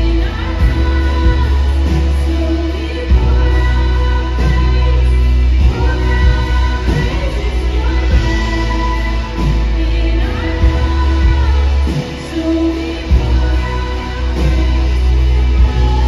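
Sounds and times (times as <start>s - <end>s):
electric and acoustic guitars: 0.0s - 16.0s
heavy bass: 0.0s - 16.0s
keyboard: 0.0s - 16.0s
singers: 0.0s - 16.0s
steady drum beat: 0.0s - 16.0s.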